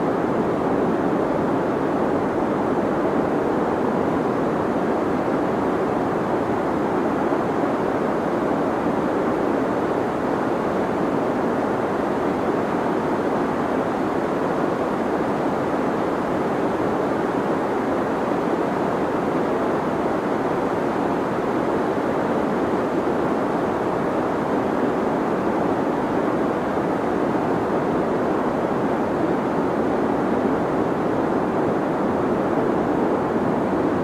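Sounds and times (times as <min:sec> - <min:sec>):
steady filtered hiss: 0:00.0 - 0:34.0.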